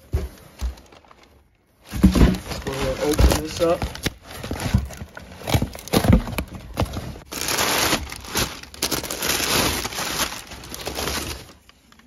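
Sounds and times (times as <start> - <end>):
packing paper rustling: 0.0 - 12.0.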